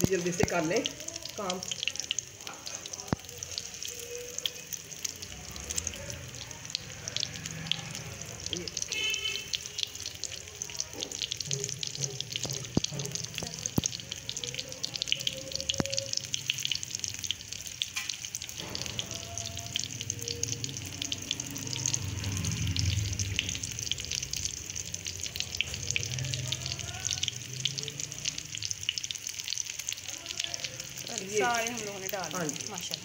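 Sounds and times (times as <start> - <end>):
cutlets frying in hot oil: 0.0 - 33.0.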